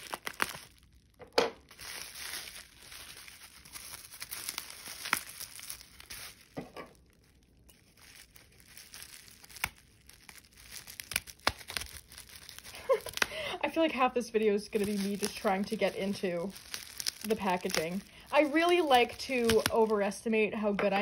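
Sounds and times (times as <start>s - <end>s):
bubble wrap crinkling: 0.0s - 21.0s.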